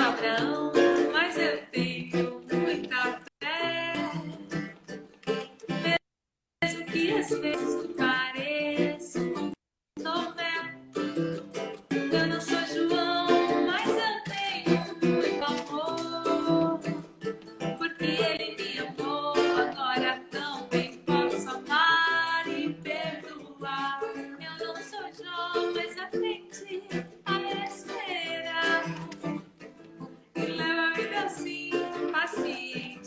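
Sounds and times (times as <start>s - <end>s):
person singing: 0.0s - 4.5s, 6.6s - 11.1s, 11.9s - 29.4s, 30.4s - 33.0s
acoustic guitar strumming: 0.0s - 6.0s, 6.6s - 33.0s.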